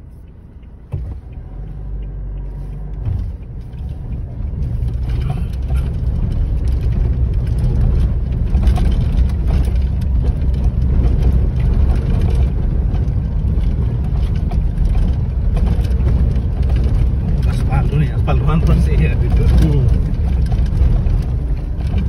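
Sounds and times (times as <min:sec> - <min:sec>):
engine and tyre rumble: 0:00.0 - 0:22.0
knocks and rattles: 0:03.1 - 0:22.0.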